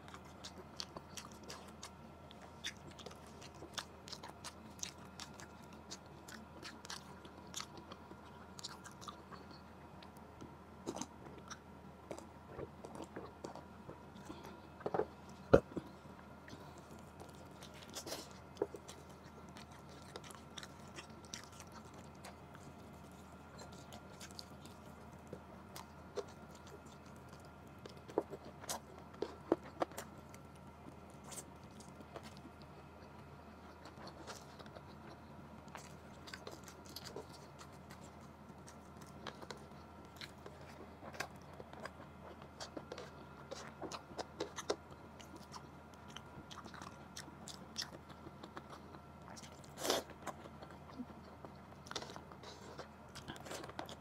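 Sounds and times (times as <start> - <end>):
person biting and chewing meat: 0.0 - 54.0.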